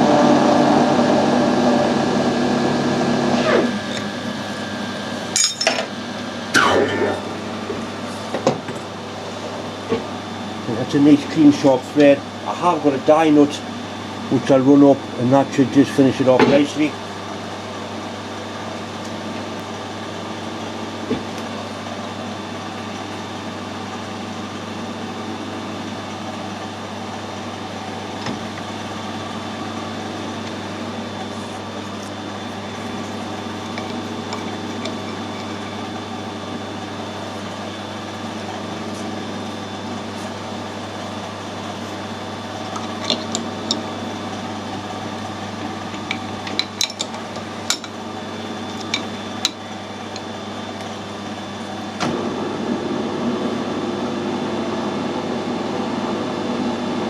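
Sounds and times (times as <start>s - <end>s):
metal lathe humming: 0.0s - 56.2s.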